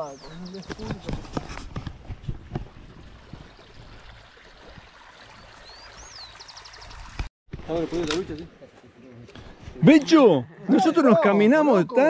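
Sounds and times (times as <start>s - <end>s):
faint running water: 0.4s - 11.8s.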